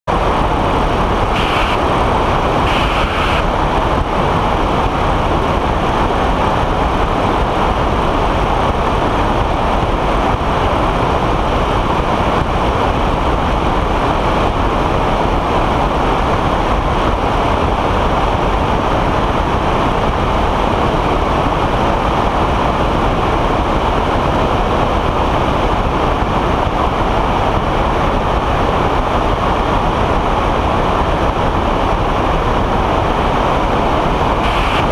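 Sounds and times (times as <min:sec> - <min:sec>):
engine and propeller drone: 0:00.0 - 0:34.9
loud rush of wind: 0:00.0 - 0:34.9.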